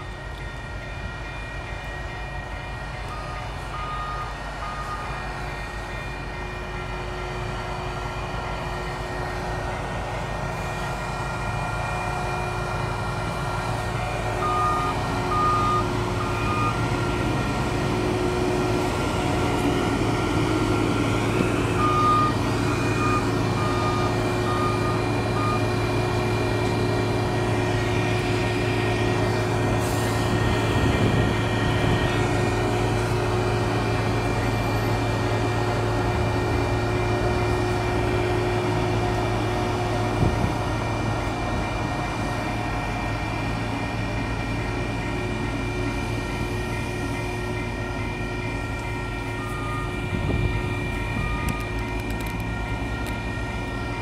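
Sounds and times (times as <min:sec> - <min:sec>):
alarm beeping: 0:00.0 - 0:38.9, 0:45.6 - 0:54.0
diesel engine running: 0:00.0 - 0:54.0.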